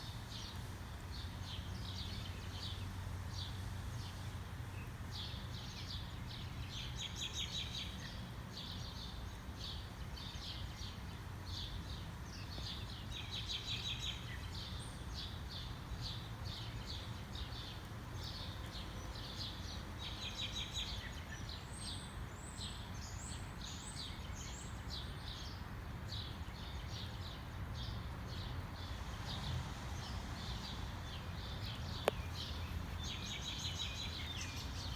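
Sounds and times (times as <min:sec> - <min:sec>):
small birds chirping: 0:04.8 - 0:34.9.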